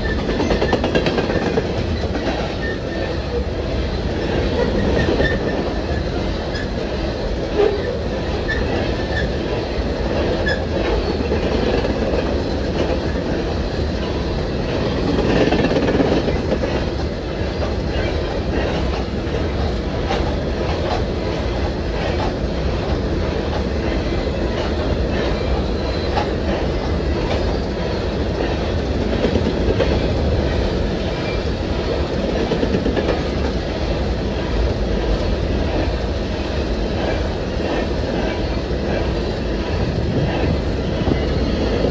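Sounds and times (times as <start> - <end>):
clickety-clack over rail joints: 0.0 - 41.9
train wheels rumbling on rail: 0.0 - 41.9.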